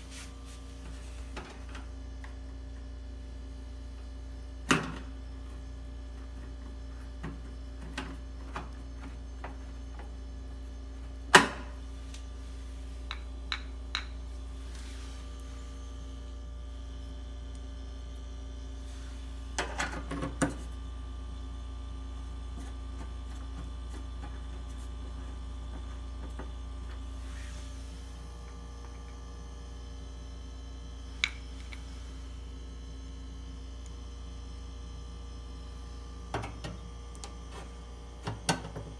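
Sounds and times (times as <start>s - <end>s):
refrigerator humming: 0.0s - 38.9s.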